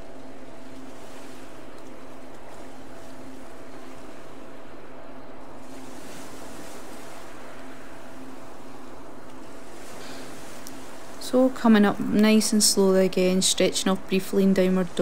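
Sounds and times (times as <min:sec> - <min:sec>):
faint low hum: 0:00.0 - 0:15.0
steady whooshing noise: 0:00.0 - 0:15.0.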